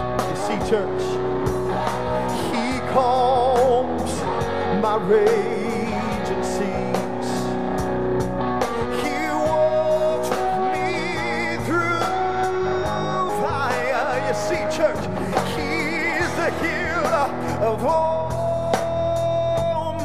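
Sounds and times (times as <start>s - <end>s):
live gospel band playing: 0.0s - 20.0s
person singing with vibrato: 2.0s - 7.6s, 8.6s - 20.0s.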